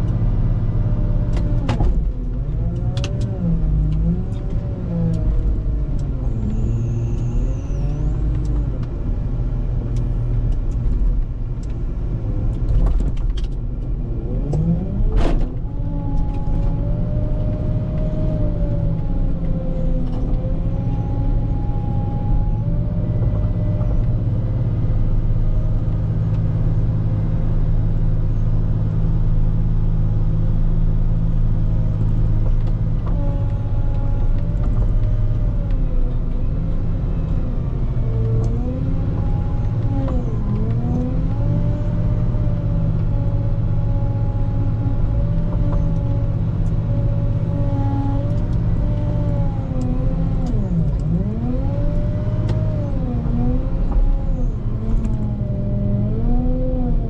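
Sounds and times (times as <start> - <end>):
wheel loader diesel engine: 0.0 - 57.0.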